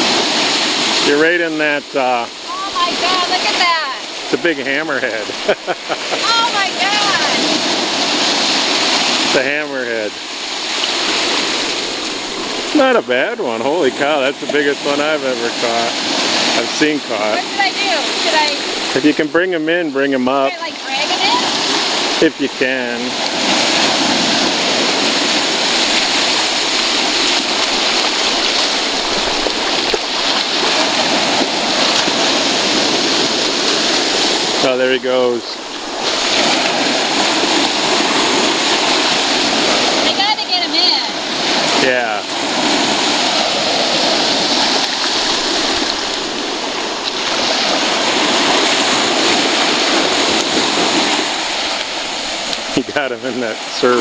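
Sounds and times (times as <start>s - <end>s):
ocean surf washing on beach: 0.0s - 54.0s.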